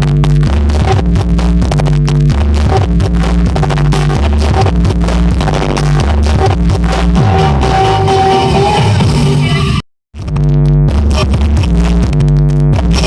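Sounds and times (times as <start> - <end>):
electronic dance music with heavy bass: 0.0 - 13.0.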